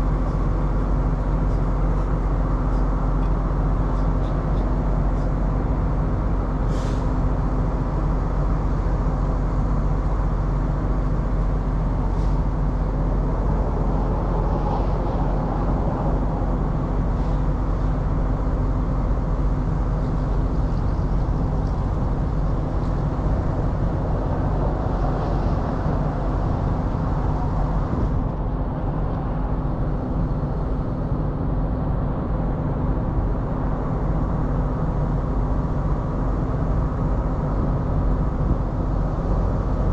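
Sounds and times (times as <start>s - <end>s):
diesel truck engine idling: 0.1s - 39.9s.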